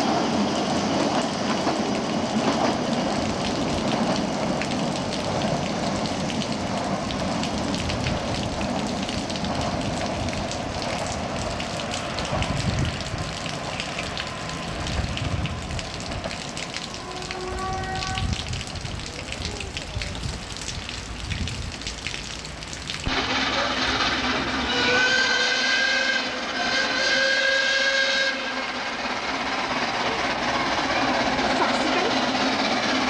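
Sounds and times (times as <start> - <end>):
rain pattering and dripping: 0.0 - 25.0, 29.0 - 33.0
train rumble: 0.0 - 33.0.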